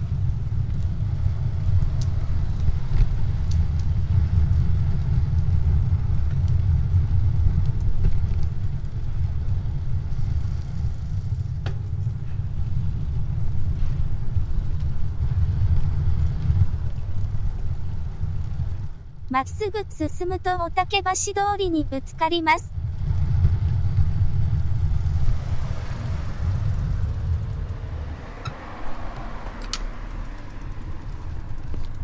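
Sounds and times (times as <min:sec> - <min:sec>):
vehicle engine rumble: 0:00.0 - 0:19.4, 0:22.7 - 0:32.0
road noise: 0:00.0 - 0:32.0.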